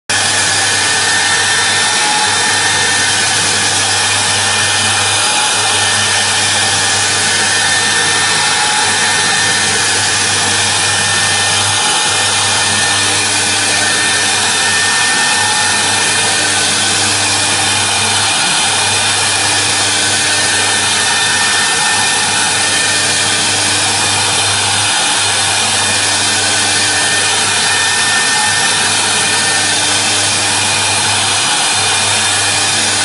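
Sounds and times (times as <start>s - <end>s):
continuous cutting noise: 0.0s - 33.0s
router spindle whine: 0.0s - 33.0s
low hum: 0.1s - 33.0s.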